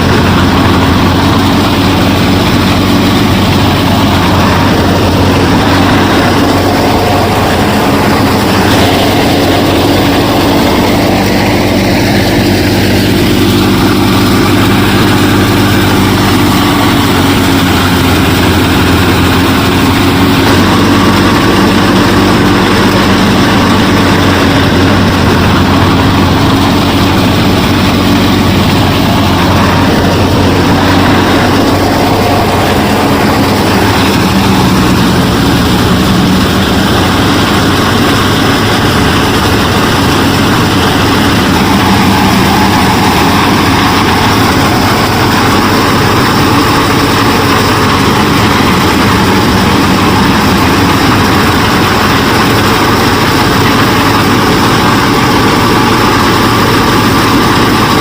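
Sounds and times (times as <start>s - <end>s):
motor running steadily: 0.0s - 58.0s.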